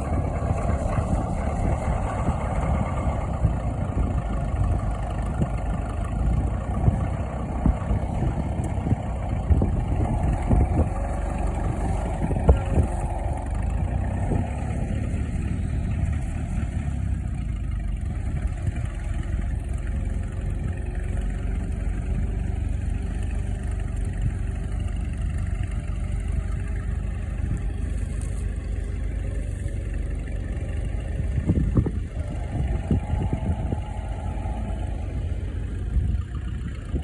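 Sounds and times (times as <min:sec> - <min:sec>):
engine knocks: 0:00.0 - 0:37.0
tractor engine running: 0:00.0 - 0:37.0.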